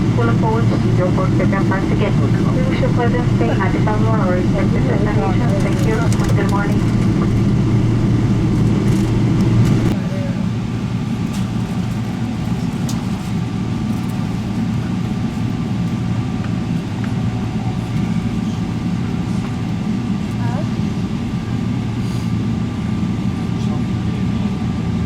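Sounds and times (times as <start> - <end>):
low rumble inside aircraft cabin: 0.0 - 25.0
faint passenger chatter: 0.1 - 7.4, 9.7 - 25.0.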